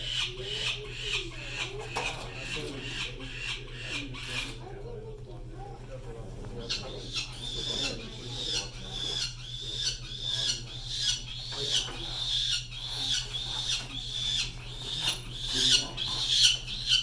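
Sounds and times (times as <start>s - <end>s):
falcon chick squawking: 0.0s - 4.8s, 6.6s - 17.0s.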